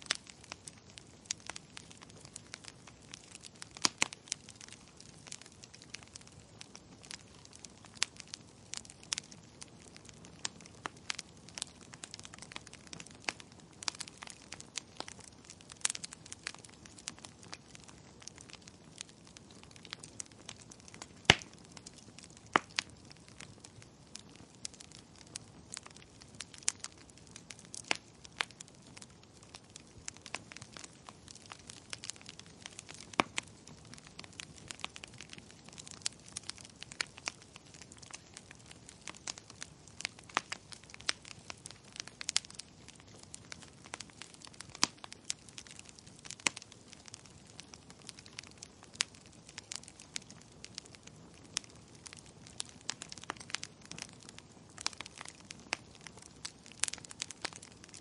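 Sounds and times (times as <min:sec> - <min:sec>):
faint steady hiss: 0:00.0 - 0:58.0
wood fire crackling: 0:00.0 - 0:58.0.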